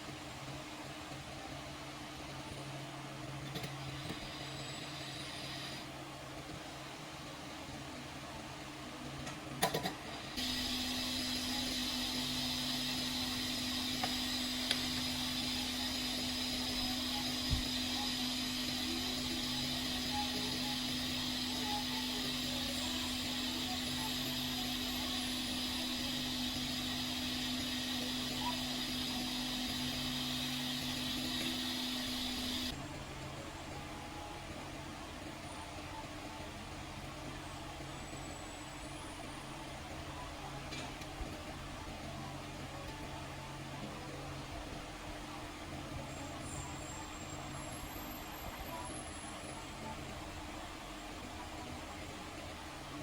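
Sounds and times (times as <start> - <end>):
fan motor humming: 0.0 - 53.0.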